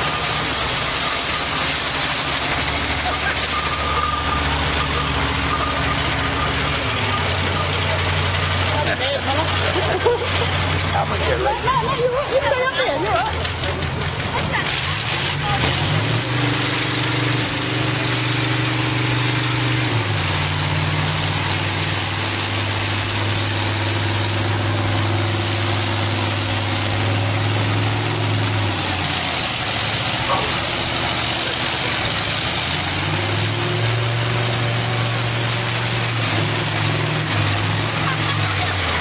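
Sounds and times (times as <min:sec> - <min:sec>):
tractor diesel engine droning: 0:00.0 - 0:39.0.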